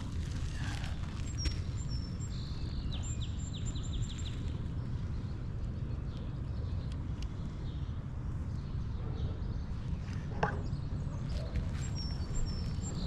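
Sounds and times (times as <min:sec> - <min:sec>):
songbird singing: 0:00.0 - 0:13.0
wind rumble on microphone: 0:00.0 - 0:13.0.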